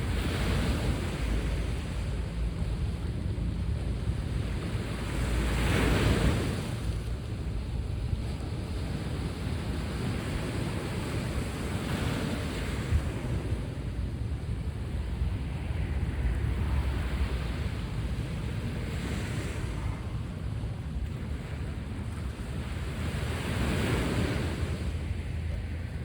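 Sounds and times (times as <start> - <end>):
sea waves washing onto shore: 0.0 - 26.0
wind rumble on microphone: 0.0 - 26.0.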